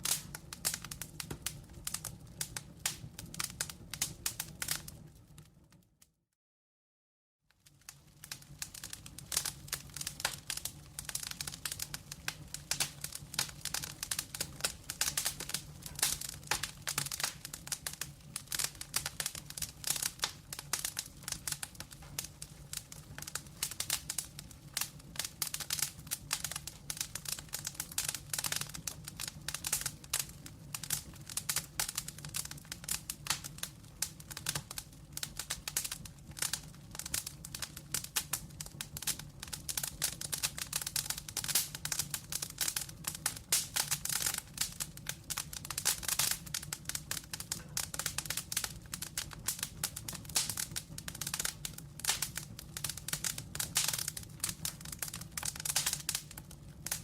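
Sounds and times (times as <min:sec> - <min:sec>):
wood fire crackling: 0:00.0 - 0:06.0, 0:07.6 - 0:57.0.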